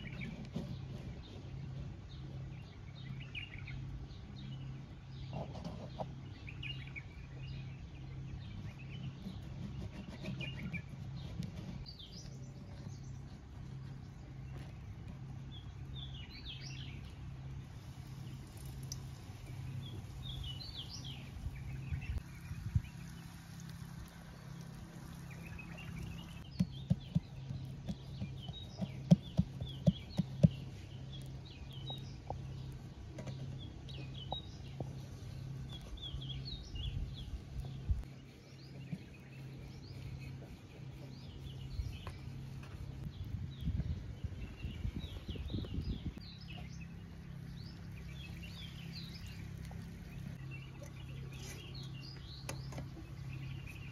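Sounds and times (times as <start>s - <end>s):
low steady hum: 0.0s - 53.9s
small birds chirping: 0.0s - 53.9s.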